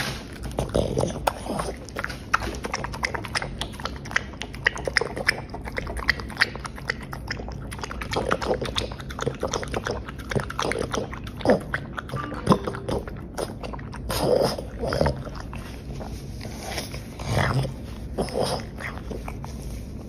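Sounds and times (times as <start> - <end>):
dog licking a plate: 0.0 - 20.0.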